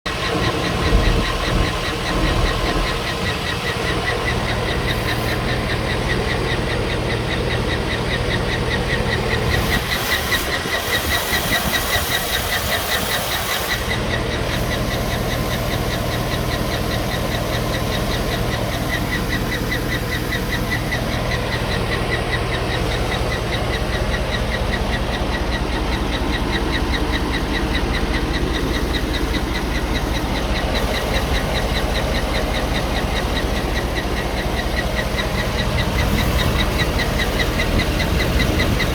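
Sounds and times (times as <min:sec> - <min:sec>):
car engine running: 0:00.0 - 0:38.9
fast steady engine ticking: 0:00.0 - 0:38.9.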